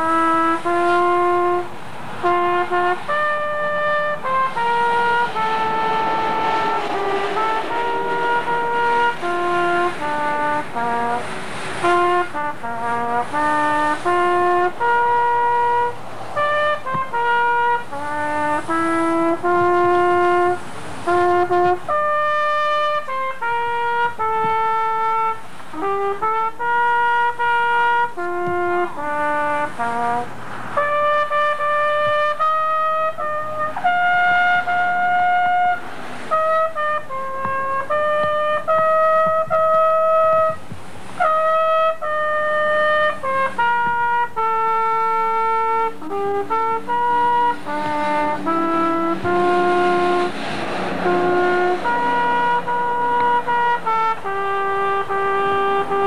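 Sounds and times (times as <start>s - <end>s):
trumpets playing melody: 0.0s - 56.0s.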